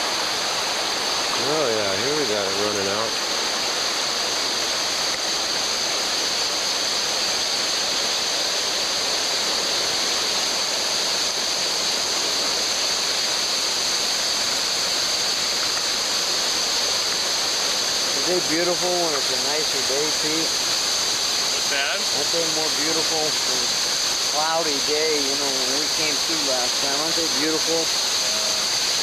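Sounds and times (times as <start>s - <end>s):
river rushing: 0.0s - 29.0s
small waterfalls pouring: 0.0s - 29.0s.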